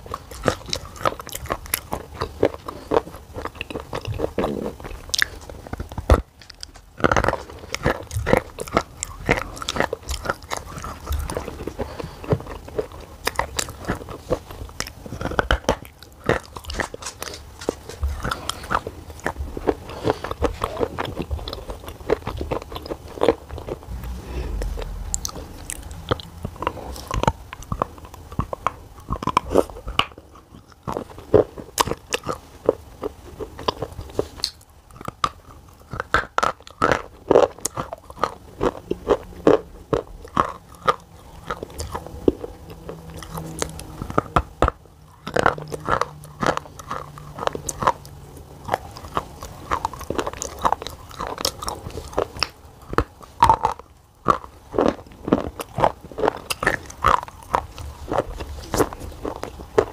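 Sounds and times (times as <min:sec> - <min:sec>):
person chewing crunchy clay: 0:00.0 - 0:59.9.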